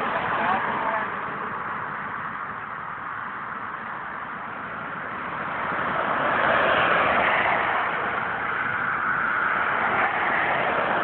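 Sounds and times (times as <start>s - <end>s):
car passing: 0.0s - 11.0s
steady traffic hiss: 0.0s - 11.0s.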